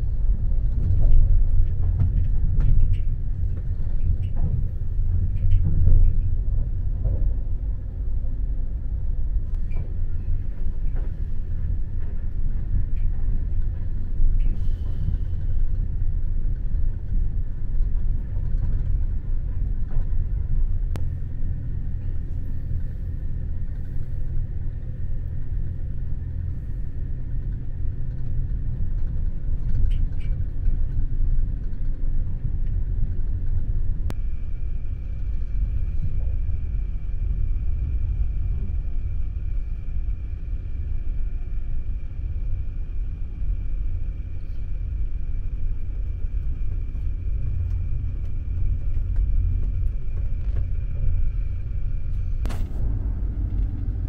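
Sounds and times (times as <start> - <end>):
train carriage rumbling on track: 0.0 - 54.0.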